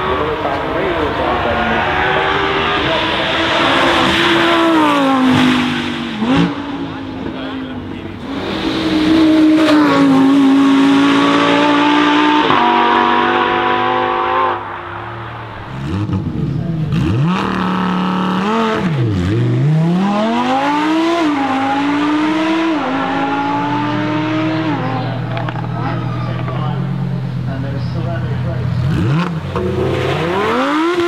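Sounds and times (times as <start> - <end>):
sports car engine at full throttle: 0.0 - 31.0
sports car engine revving: 0.0 - 31.0.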